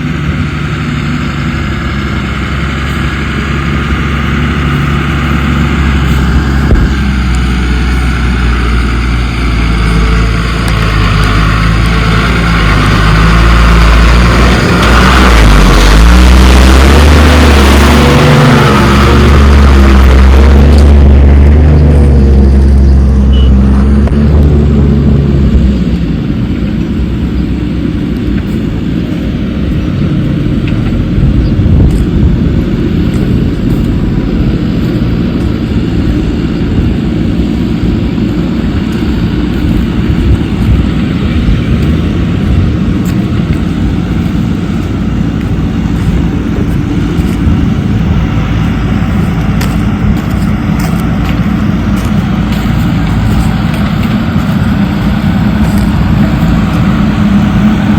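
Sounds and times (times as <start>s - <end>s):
diesel machinery engine rumble: 0.0s - 57.9s.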